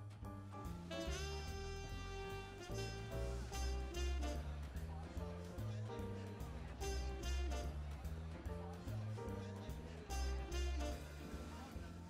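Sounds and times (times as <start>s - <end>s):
jazz melody line: 0.0s - 12.0s
low bass notes: 0.0s - 12.0s.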